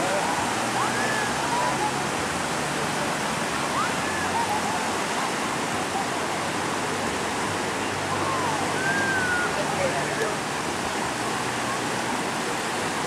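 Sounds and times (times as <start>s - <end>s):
sea water rushing and spraying: 0.0s - 13.0s.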